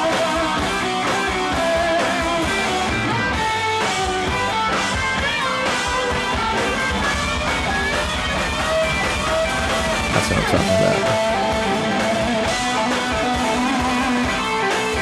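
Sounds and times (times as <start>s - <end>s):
electric lead guitar: 0.0s - 15.0s
live rock band playing: 0.0s - 15.0s.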